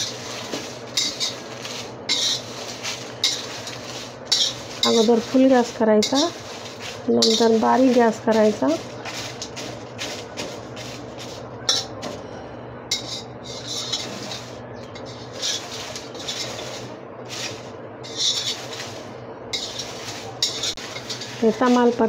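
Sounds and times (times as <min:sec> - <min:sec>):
metal spatula scraping leaves: 0:00.0 - 0:12.2, 0:12.9 - 0:22.0
steady low hum: 0:00.0 - 0:22.0.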